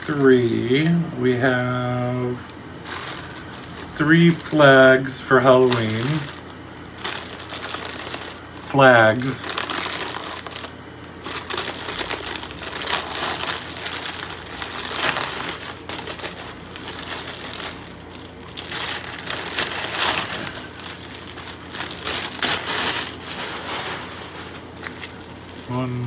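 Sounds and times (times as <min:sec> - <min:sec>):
plastic packaging crinkling: 0:00.0 - 0:00.8, 0:01.4 - 0:26.0.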